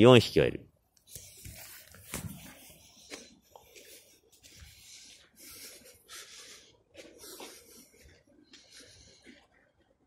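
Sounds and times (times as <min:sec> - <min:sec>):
rustling and scuffing: 0:01.1 - 0:09.5.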